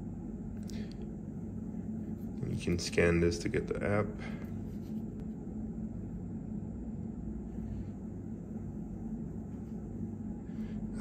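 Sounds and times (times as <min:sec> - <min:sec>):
low room hum and rumble: 0:00.0 - 0:11.0.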